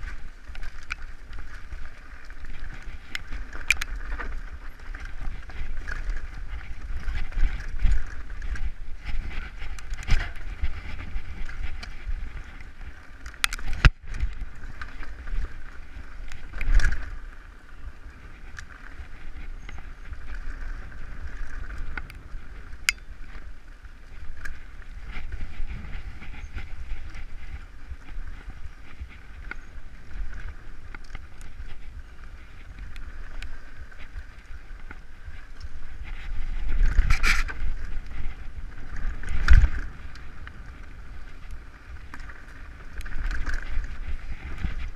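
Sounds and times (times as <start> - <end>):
bike rattles and clicks: 0.0 - 44.9
bike tyre and wind rumble: 0.0 - 44.9.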